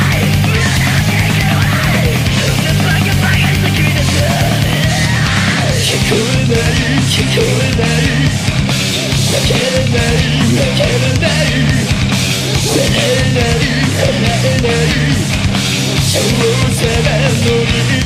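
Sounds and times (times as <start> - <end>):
bass guitar: 0.0 - 18.0
distorted electric guitars: 0.0 - 18.0
fast drums: 0.0 - 18.0.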